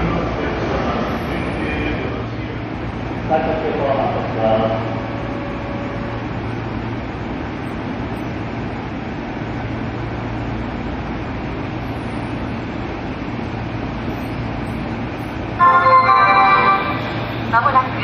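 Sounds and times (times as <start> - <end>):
mechanical hum and hiss: 0.1 - 18.0.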